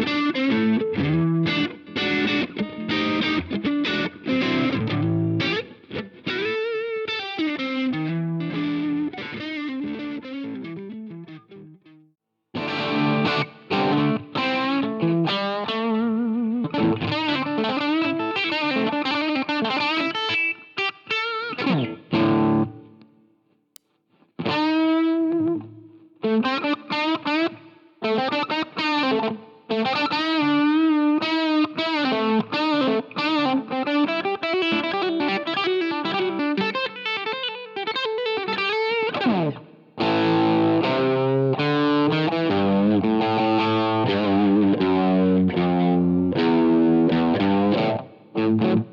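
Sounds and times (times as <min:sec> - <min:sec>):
overdriven electric guitar: 0:00.0 - 0:23.2, 0:24.2 - 0:48.9.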